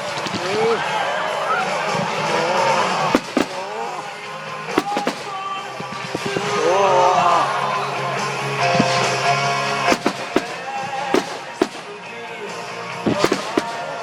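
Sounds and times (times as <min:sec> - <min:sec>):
firework bangs: 0:00.0 - 0:01.2, 0:02.8 - 0:07.7, 0:08.6 - 0:14.0.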